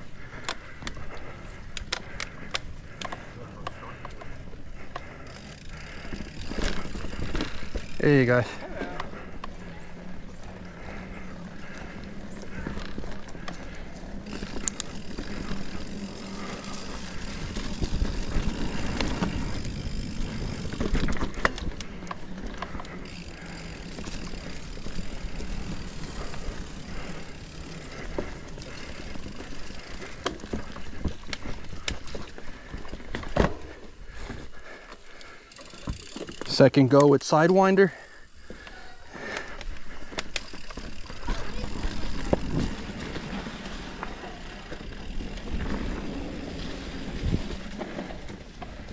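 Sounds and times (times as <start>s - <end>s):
bike rattling over bumps: 0.0s - 48.9s
bike tyres on dirt trail: 0.0s - 48.9s.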